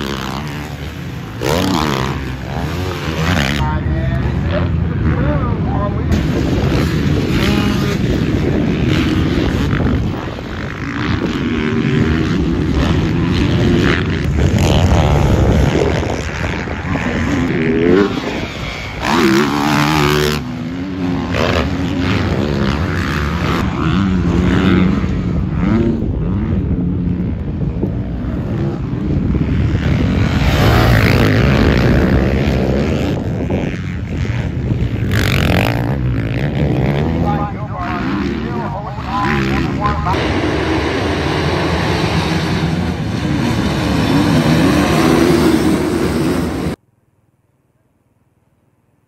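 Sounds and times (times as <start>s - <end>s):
dirt bike engines revving: 0.0s - 46.8s.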